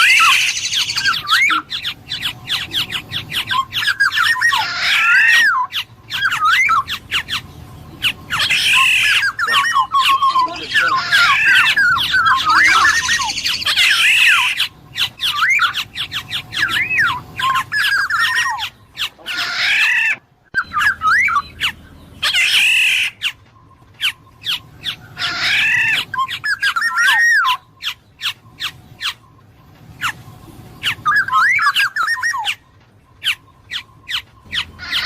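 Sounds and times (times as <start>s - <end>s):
bird whistling and squawking: 0.0s - 29.3s, 29.9s - 35.0s.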